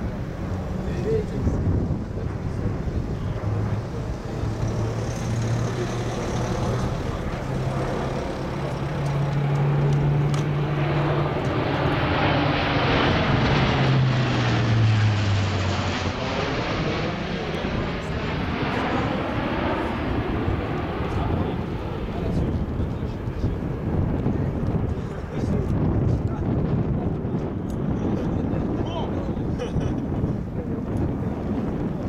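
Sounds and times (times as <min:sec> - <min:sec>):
propeller aircraft flying overhead: 0:00.0 - 0:32.0.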